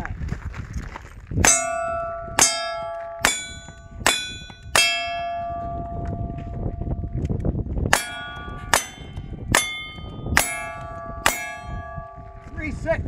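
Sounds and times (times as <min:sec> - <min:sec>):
steel plate target ringing: 0:01.4 - 0:07.2, 0:07.9 - 0:12.8.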